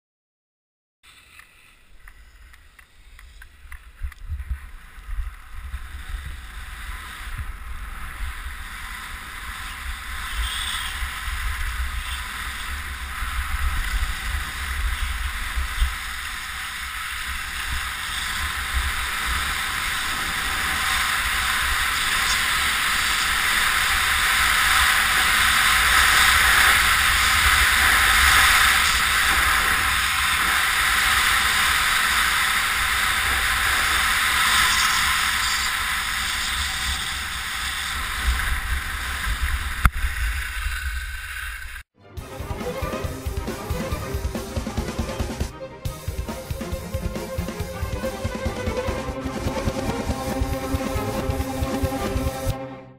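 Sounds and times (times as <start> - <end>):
skis hissing over snow: 1.1 - 41.9, 45.9 - 52.5.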